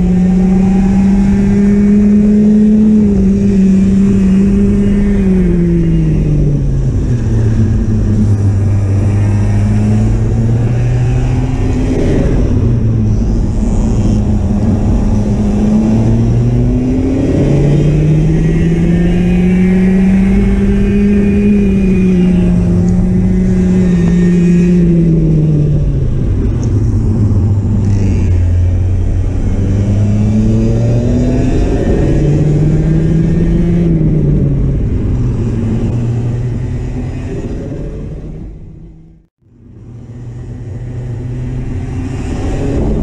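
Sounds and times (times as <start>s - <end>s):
kart engine revving: 0.0s - 39.2s.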